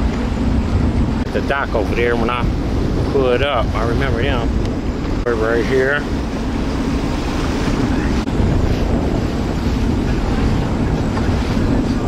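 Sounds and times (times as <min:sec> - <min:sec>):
boat engine running: 0:00.0 - 0:12.0
rushing water: 0:00.0 - 0:12.0
wind noise on microphone: 0:00.0 - 0:12.0.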